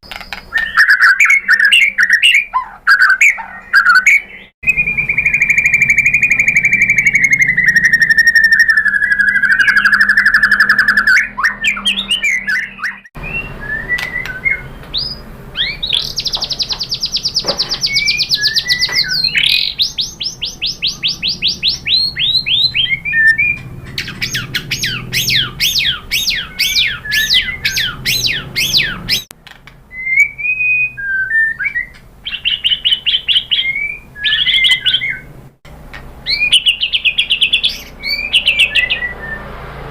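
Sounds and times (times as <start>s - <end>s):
songbird singing varied song: 0.0s - 29.3s, 30.0s - 35.3s, 36.2s - 39.6s.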